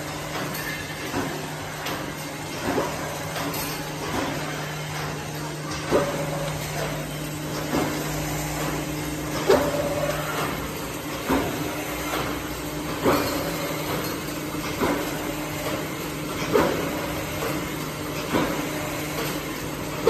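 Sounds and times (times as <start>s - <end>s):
machine motor hum: 0.0s - 20.0s.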